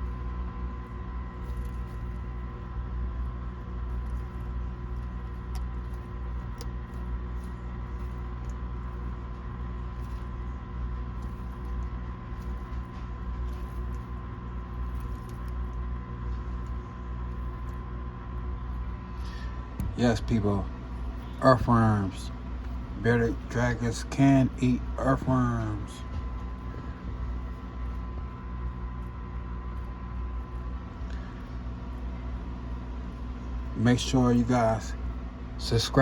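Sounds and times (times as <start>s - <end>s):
machine hum with held tones: 0.0s - 36.0s.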